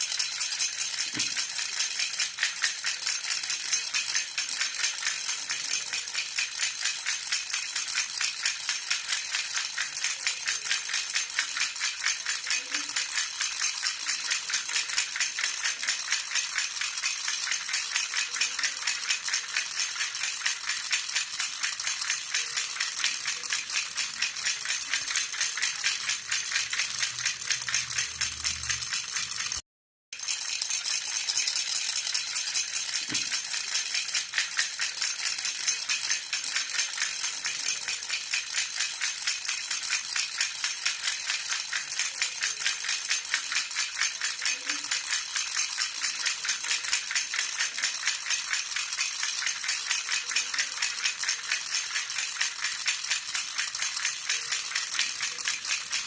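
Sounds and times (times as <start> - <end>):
baby rattle jingling: 0.0 - 29.6, 30.2 - 56.0.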